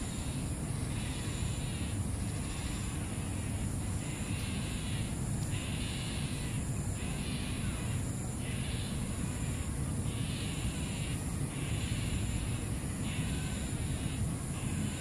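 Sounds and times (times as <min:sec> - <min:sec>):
harsh raspy animal call: 0:00.0 - 0:15.0
steady low rumble: 0:00.0 - 0:15.0.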